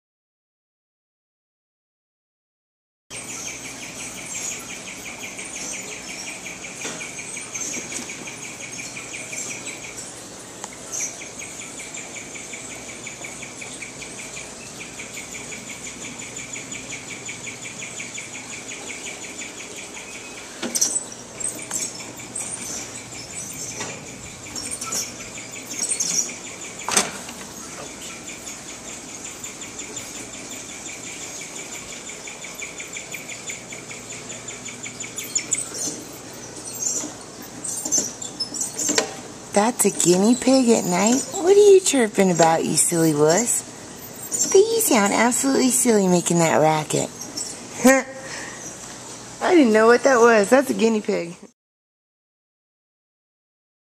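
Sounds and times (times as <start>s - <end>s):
guinea pig chirping: 3.1s - 48.8s, 49.4s - 51.5s.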